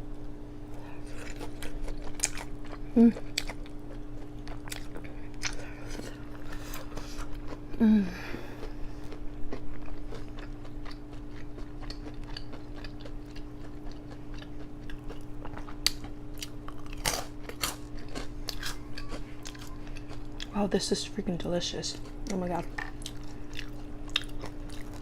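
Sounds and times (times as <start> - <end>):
steady low hum: 0.0 - 25.0
chewing and crunching: 0.7 - 25.0.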